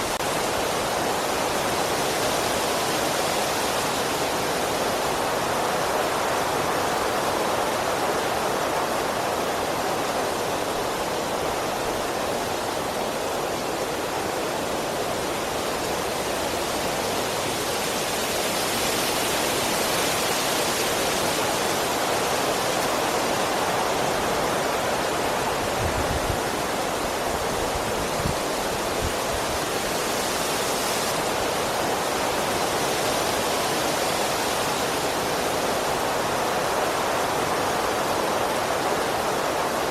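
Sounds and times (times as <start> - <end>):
wind rushing through trees: 0.0 - 39.9.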